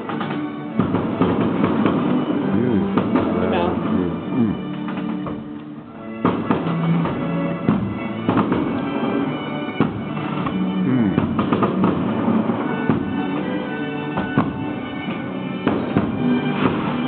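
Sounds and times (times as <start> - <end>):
music with held tones: 0.0 - 17.0.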